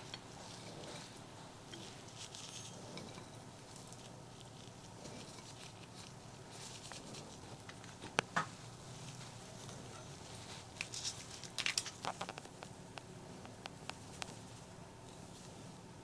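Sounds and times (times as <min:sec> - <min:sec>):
crunchy chewing: 0:00.0 - 0:15.9.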